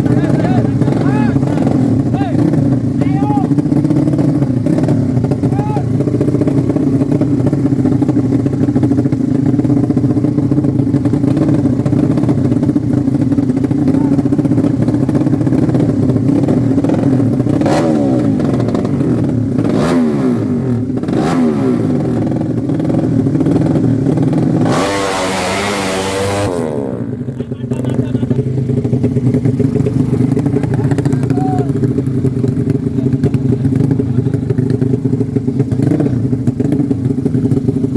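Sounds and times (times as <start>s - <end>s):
racing motorcycle engines revving: 0.0s - 37.9s.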